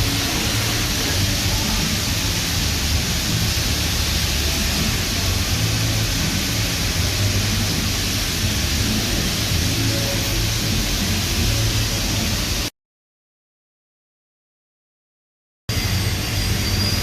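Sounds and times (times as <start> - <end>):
welding arc crackling and hissing: 0.0 - 12.7, 15.7 - 17.0.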